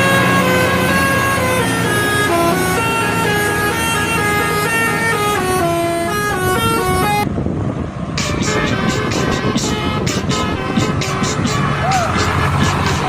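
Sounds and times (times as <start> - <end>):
bus horn playing a tune: 0.0 - 7.3, 8.2 - 13.0
low engine rumble: 0.0 - 13.0.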